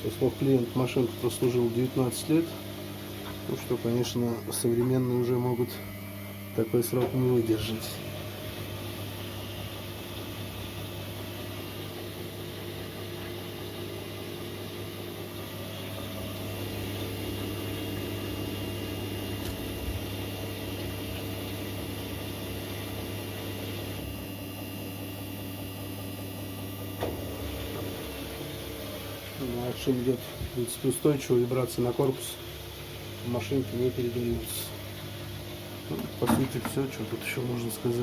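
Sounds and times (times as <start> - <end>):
washing machine spinning: 0.0 - 38.0.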